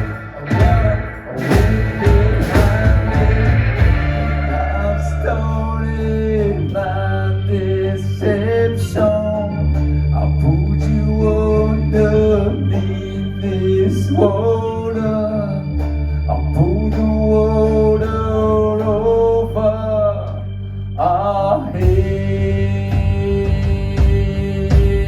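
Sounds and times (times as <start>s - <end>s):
gliding melody line: 0.0s - 22.6s
bass line: 0.0s - 25.0s
organ chords: 0.0s - 25.0s.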